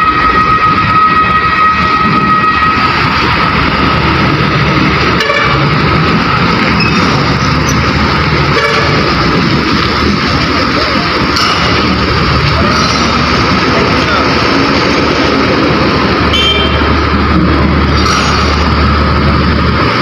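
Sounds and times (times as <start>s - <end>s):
heavy diesel engines running: 0.0s - 20.0s.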